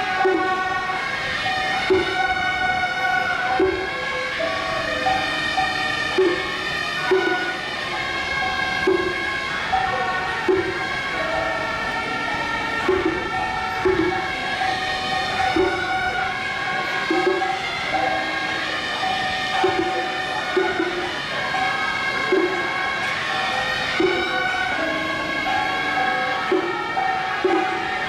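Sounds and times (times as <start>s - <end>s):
percussion strikes: 0.0s - 28.0s
reed horns playing melody: 0.0s - 28.0s.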